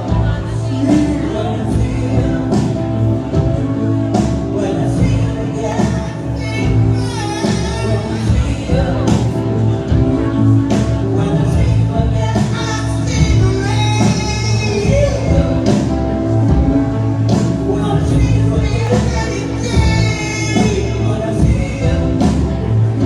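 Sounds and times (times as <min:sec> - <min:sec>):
bass line: 0:00.0 - 0:23.0
live band playing soft rock: 0:00.0 - 0:23.0
person singing: 0:00.0 - 0:23.0.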